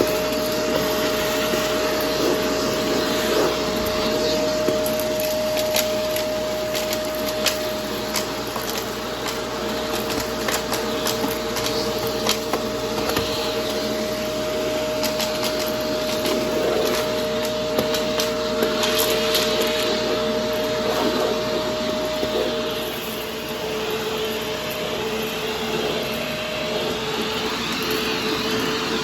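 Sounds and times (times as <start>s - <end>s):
vacuum cleaner motor whine: 0.0s - 29.0s.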